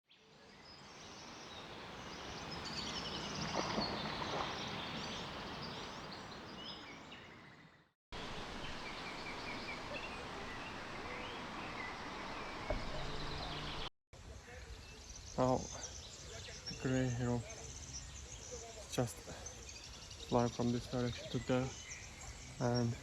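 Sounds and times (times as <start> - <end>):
steady outdoor hiss: 0.3 - 7.6, 8.2 - 23.0
small birds chirping: 0.4 - 13.9, 14.5 - 23.0.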